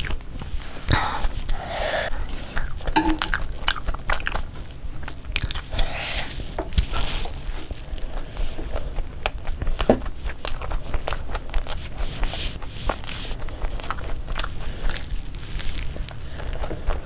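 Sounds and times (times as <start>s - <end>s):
person chewing and biting burger: 0.0s - 17.0s.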